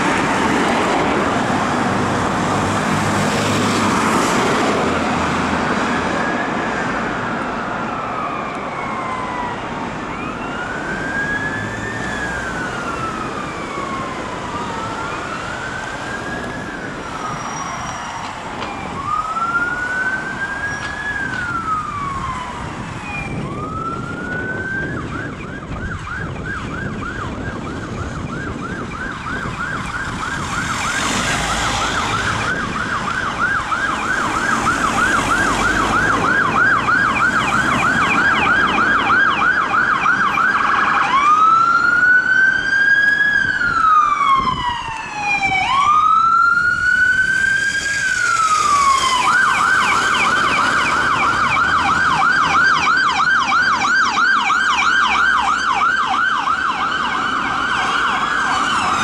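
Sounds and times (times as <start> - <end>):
ambulance siren: 0.0 - 59.0.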